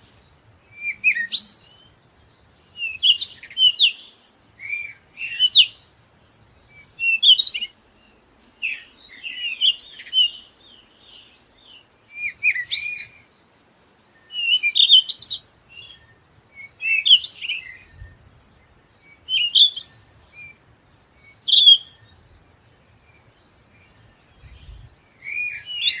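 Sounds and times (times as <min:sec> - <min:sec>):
songbird warbling: 0:00.6 - 0:13.4, 0:14.1 - 0:26.0.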